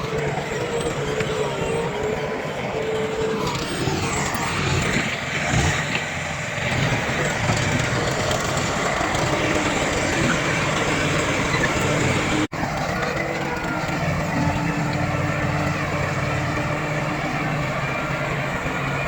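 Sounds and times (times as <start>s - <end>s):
diesel machinery engine rumble: 0.0s - 19.0s.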